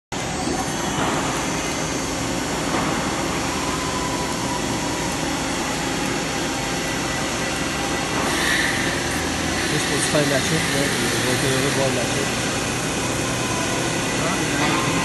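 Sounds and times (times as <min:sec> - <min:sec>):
shop machinery hum and hiss: 0:00.1 - 0:15.0.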